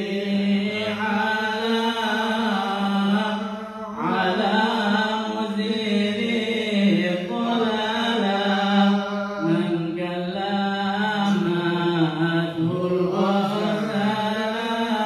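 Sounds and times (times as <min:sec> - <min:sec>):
man chanting into loudspeaker: 0:00.0 - 0:15.0.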